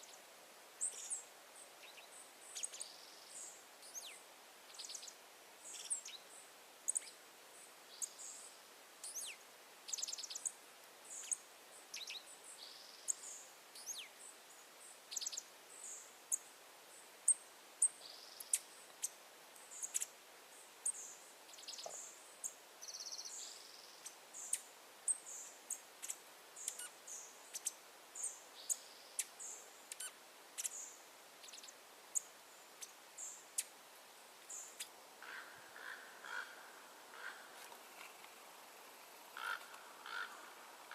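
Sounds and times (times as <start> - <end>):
faint outdoor hiss: 0.0 - 40.9
wild birds chirping: 0.0 - 40.9.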